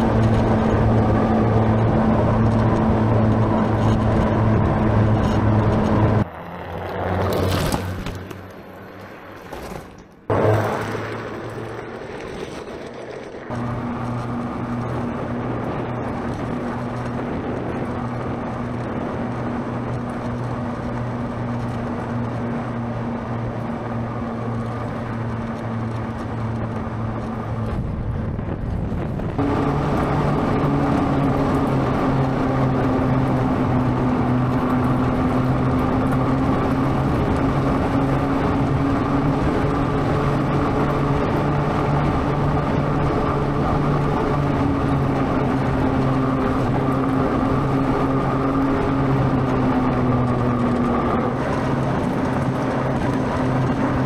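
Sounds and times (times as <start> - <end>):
tyre and wind noise: 0.0 - 54.0.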